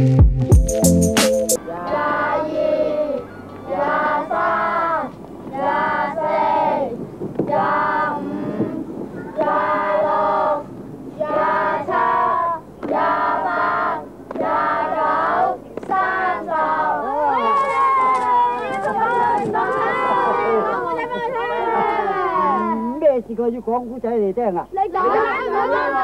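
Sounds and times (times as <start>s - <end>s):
children singing: 1.6s - 22.7s, 25.0s - 26.0s.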